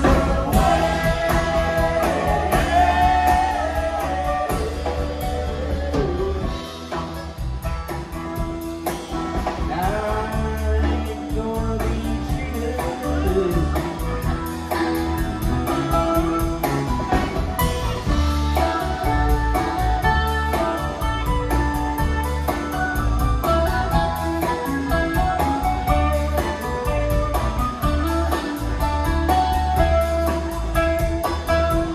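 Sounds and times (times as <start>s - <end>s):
blues-rock band playing: 0.0s - 31.9s.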